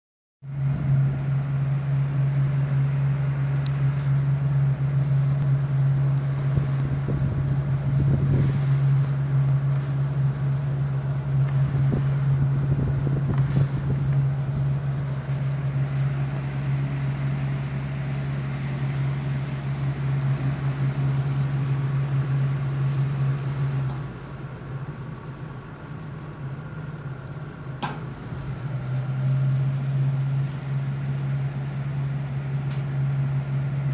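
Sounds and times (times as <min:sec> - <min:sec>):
cooler motor humming: 0:00.4 - 0:33.9.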